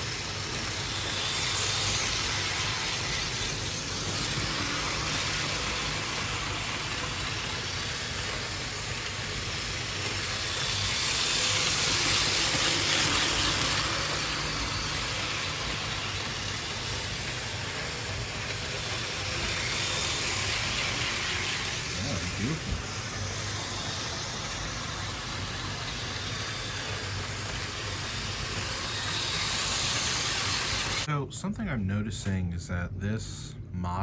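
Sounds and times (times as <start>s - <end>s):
model train motor whirring: 0.0s - 31.1s
model train wheels on rails: 0.0s - 31.1s.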